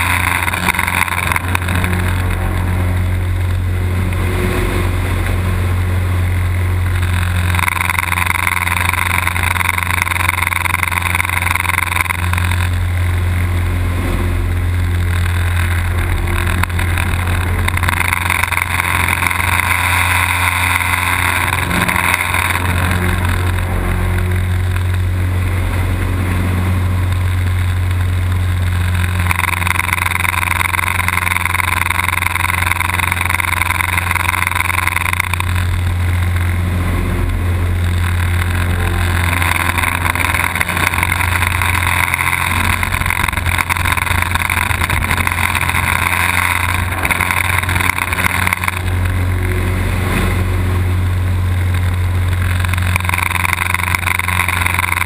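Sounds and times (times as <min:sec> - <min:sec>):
airflow noise: 0:00.0 - 0:55.0
propeller plane engine running: 0:00.0 - 0:55.0.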